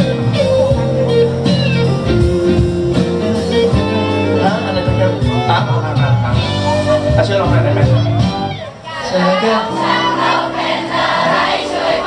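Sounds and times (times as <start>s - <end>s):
pop song with guitar: 0.0s - 10.2s.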